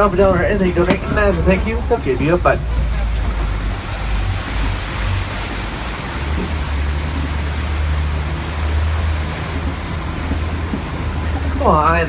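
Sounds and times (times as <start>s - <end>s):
truck engine drone: 0.0s - 12.0s
wind and road noise: 0.0s - 12.0s.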